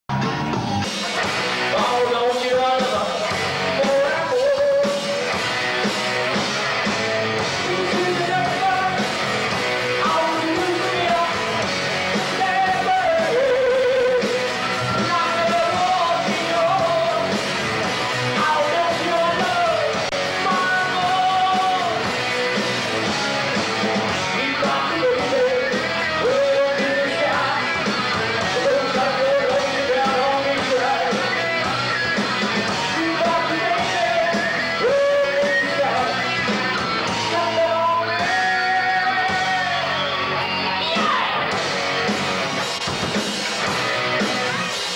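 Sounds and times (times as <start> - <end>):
live rock band playing: 0.1 - 44.9
lead singer singing: 1.6 - 5.8, 7.4 - 22.6, 24.1 - 41.4.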